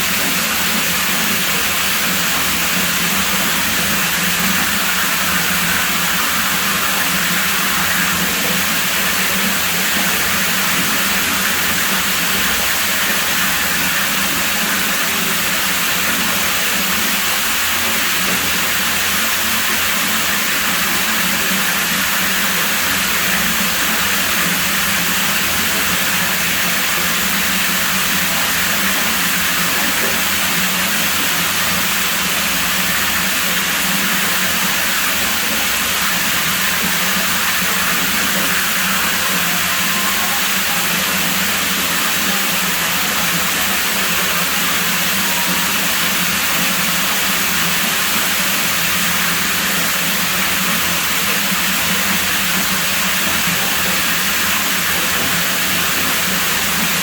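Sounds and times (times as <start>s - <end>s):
pool water rushing: 0.0s - 57.0s.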